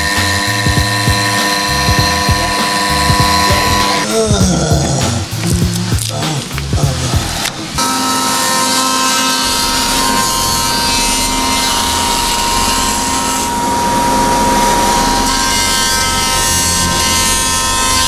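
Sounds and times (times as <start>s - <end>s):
electric motor machine whining: 0.0s - 4.3s, 5.3s - 18.0s.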